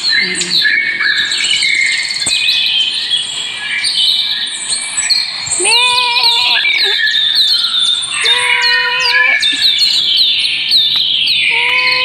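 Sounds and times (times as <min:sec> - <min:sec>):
birds chirping busily: 0:00.0 - 0:12.0
longer steady bird call: 0:00.0 - 0:12.0.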